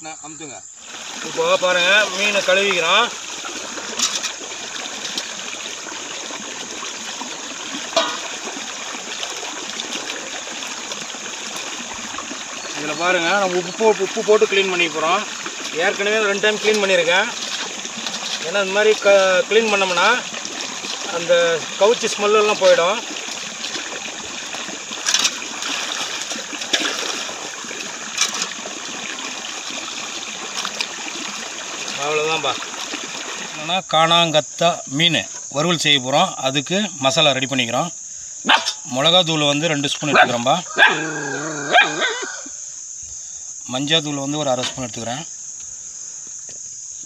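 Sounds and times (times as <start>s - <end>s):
shallow running water: 0.6s - 46.8s.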